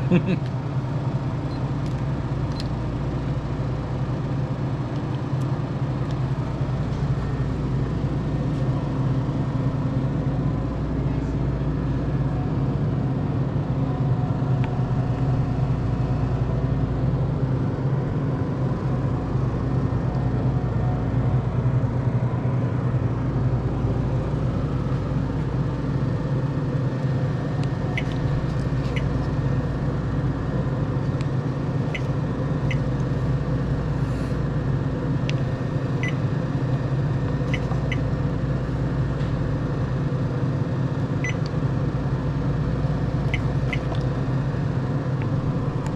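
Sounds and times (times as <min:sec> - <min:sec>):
cooling unit electrical hum: 0:00.0 - 0:45.9.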